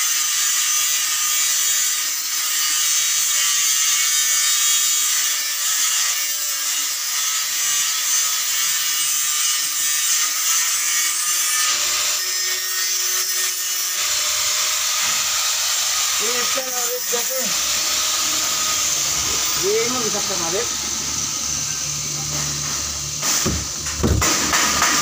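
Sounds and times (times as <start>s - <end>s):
angle grinder grinding steel: 0.0s - 25.0s.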